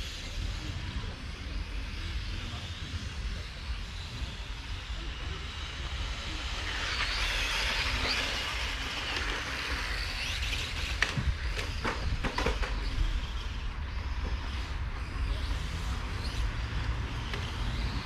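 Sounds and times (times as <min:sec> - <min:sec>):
rc cars racing past: 0:00.0 - 0:18.0.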